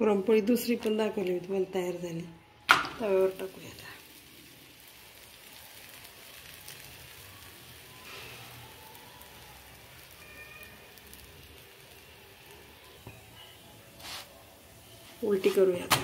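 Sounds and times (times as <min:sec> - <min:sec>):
flatbread sizzling on a griddle: 0:02.7 - 0:16.0.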